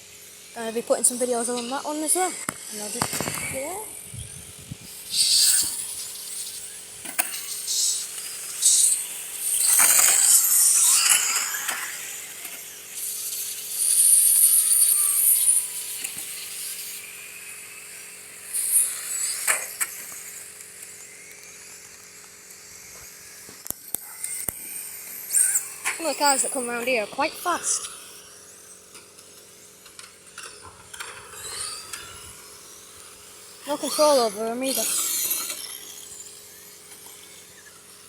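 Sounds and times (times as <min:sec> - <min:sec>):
rc car motors whining past: 0:00.0 - 0:38.0.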